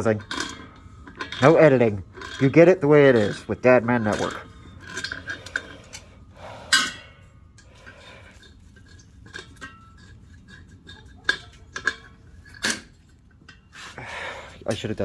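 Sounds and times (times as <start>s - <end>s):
metal tools clinking and clanking: 0.0s - 15.0s.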